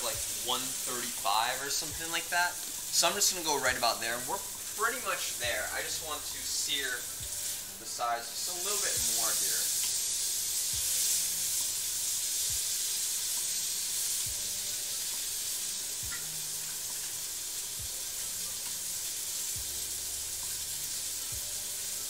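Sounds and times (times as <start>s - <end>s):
steak and vegetables sizzling: 0.0s - 22.0s.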